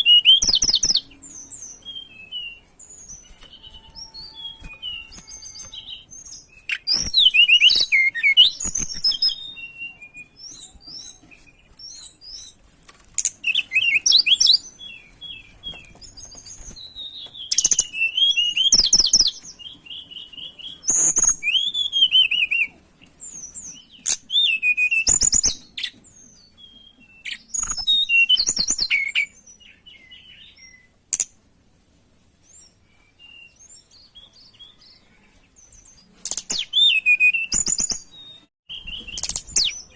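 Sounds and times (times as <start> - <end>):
songbird chirping and whistling: 0.0 - 31.3, 32.4 - 39.9.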